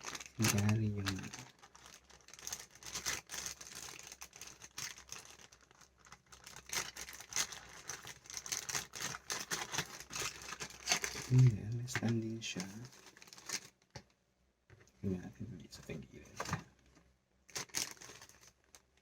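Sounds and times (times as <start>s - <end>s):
plastic wrapper crinkling: 0.0s - 14.2s, 16.4s - 19.0s.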